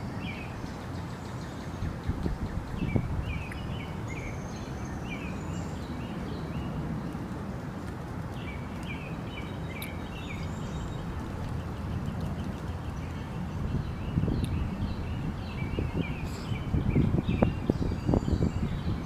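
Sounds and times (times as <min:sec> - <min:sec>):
small birds chirping: 0:00.2 - 0:07.4, 0:08.2 - 0:19.0.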